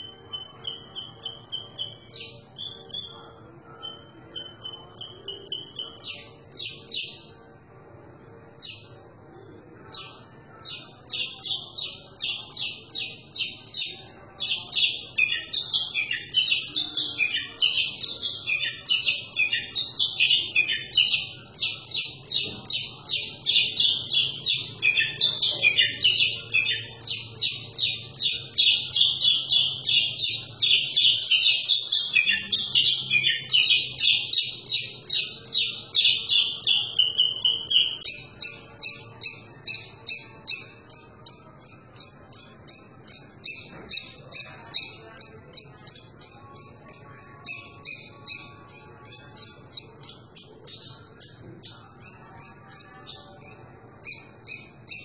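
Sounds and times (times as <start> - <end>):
bird singing chirps and trills: 0.0 - 7.5, 8.5 - 55.0.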